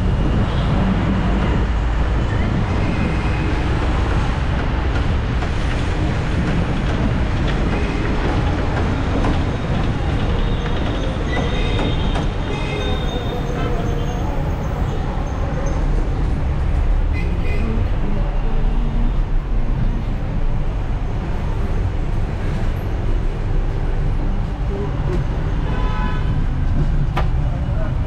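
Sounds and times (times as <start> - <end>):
vehicle rumbling and rattling: 0.0 - 28.0.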